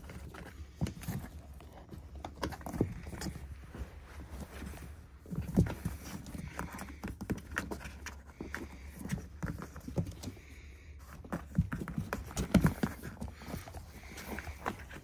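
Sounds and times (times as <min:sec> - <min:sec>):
paws scratching cardboard: 0:00.0 - 0:15.0.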